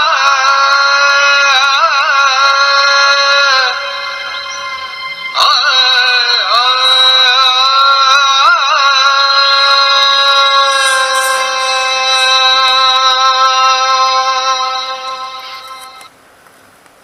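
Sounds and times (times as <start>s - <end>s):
high voice singing devotional music: 0.0s - 16.1s.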